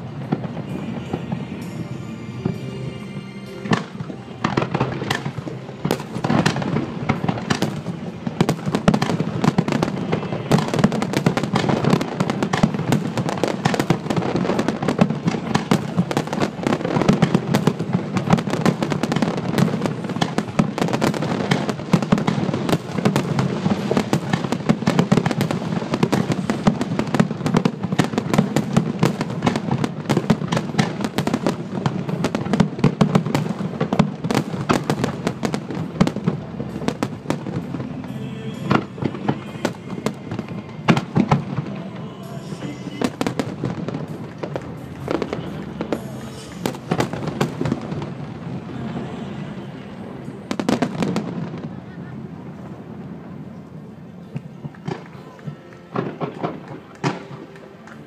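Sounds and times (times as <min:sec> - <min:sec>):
fireworks shells bursting: 0:00.0 - 0:49.0.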